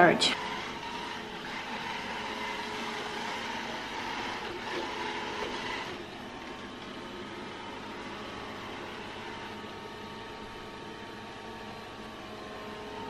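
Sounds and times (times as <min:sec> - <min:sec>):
robot vacuum running: 0:00.0 - 0:13.0.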